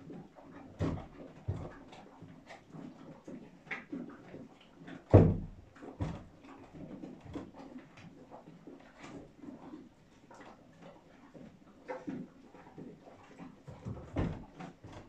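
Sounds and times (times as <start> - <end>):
light knocks and rustles: 0.0 - 15.0.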